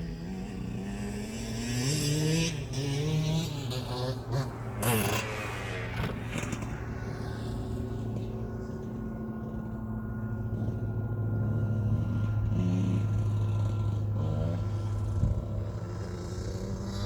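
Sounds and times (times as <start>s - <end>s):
engine revs: 0.0s - 9.6s, 10.4s - 17.0s
motocross bike engine: 0.0s - 17.0s.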